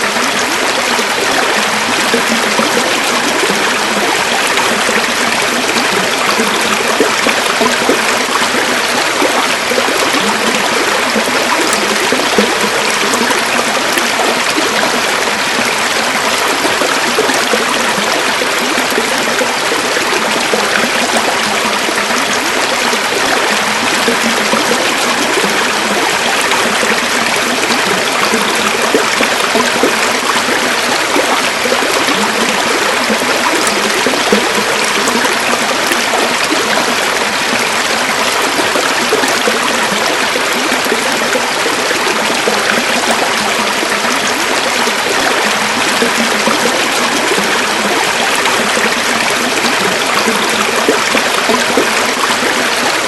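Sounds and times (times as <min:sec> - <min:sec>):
river flowing over stones: 0:00.0 - 0:53.0.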